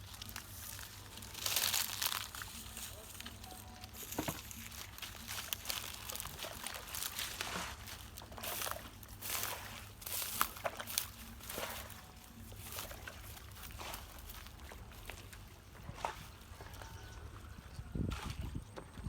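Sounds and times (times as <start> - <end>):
shallow water splashing: 0.0 - 17.5.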